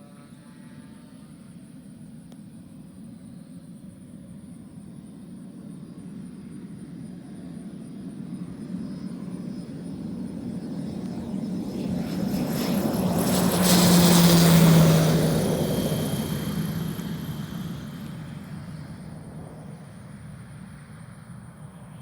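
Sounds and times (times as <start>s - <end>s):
turboprop plane flying past: 0.0s - 22.0s.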